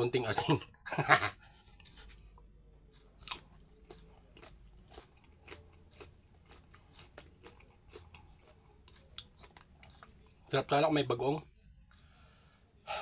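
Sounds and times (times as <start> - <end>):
chewing mango slices: 1.5 - 12.2.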